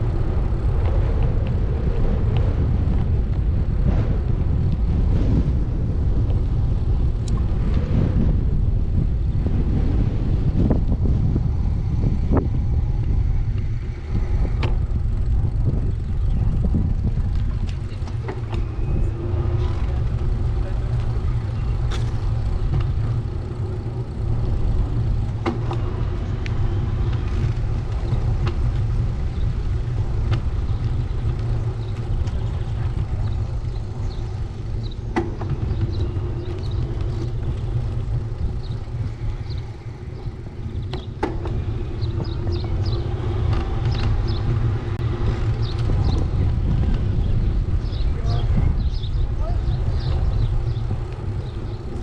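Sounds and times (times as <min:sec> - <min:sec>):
bicycle ride rumble: 0:00.0 - 0:52.0.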